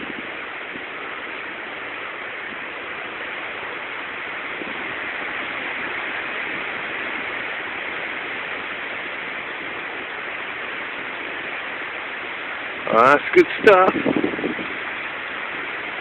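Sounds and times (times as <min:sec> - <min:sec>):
thunderstorm hiss: 0:00.0 - 0:16.0.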